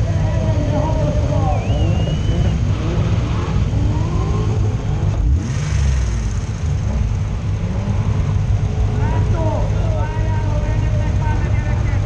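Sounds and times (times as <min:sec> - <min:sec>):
car engines revving unevenly: 0:00.0 - 0:12.0
heavy low engine rumble: 0:00.0 - 0:12.0.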